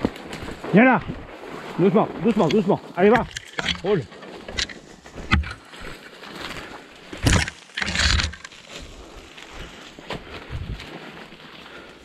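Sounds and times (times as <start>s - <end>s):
branches and leaves crackling: 0.0s - 12.0s.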